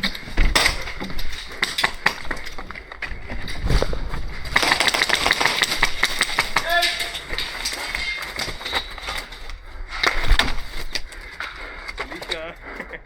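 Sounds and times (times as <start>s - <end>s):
background noise: 0.0s - 13.0s
sharp clicks and clinks: 0.0s - 13.0s.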